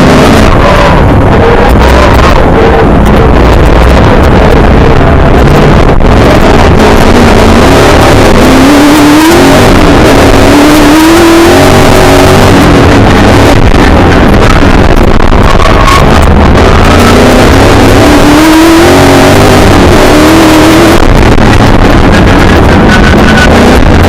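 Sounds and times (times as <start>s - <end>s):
racing car engine revving: 0.0s - 24.0s.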